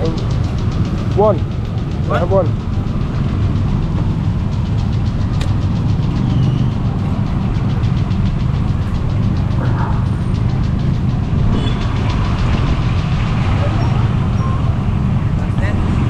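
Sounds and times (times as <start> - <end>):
engine idling with ticking: 0.0 - 16.0.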